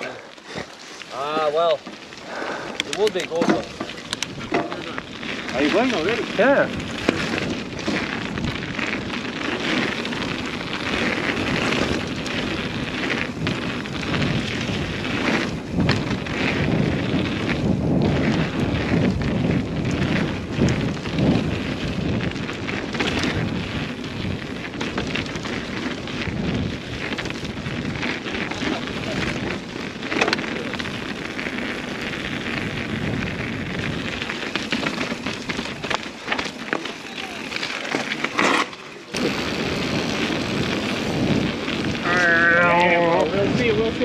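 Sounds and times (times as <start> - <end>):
bike tyres rolling and rattling: 0.0 - 44.0
wind on microphone: 2.2 - 44.0.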